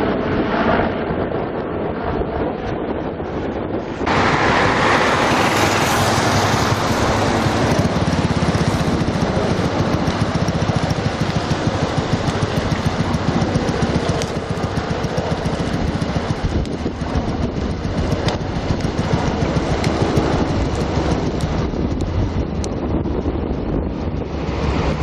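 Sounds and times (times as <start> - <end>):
engine and air rush: 0.0 - 25.0
helicopter rotor chopping: 0.0 - 25.0.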